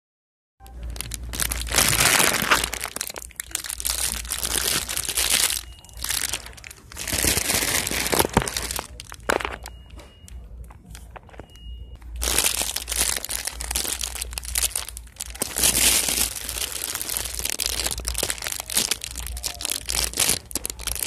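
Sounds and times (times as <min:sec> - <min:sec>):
plastic wrapping crinkling: 0:00.7 - 0:21.0.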